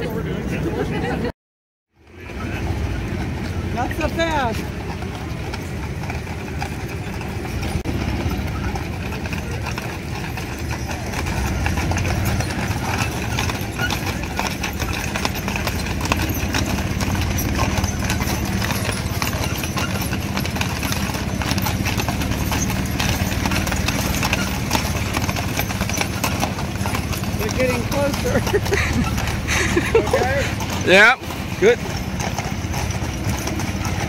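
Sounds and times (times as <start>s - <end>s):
hooves clip-clopping on asphalt: 2.0s - 34.0s.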